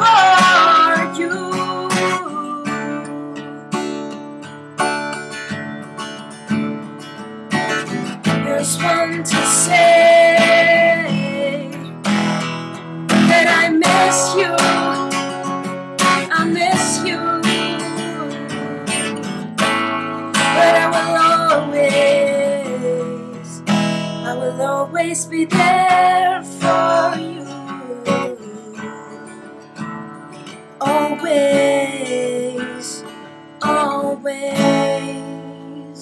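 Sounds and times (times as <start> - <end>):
woman singing: 0.0 - 3.9, 8.2 - 12.4, 13.1 - 19.5, 20.3 - 29.6, 30.8 - 36.0
acoustic guitar strumming: 0.0 - 36.0.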